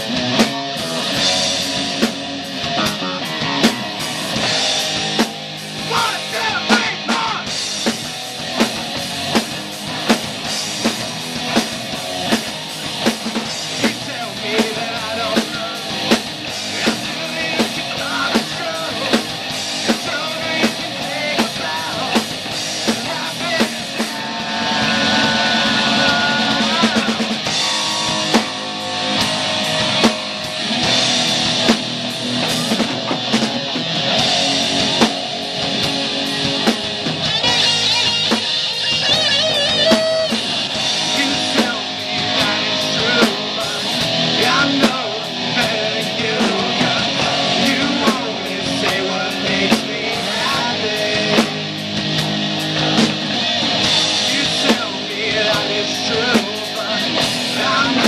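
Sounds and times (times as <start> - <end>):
bass guitar: 0.0 - 58.0
drum beat: 0.0 - 58.0
electric guitars: 0.0 - 58.0.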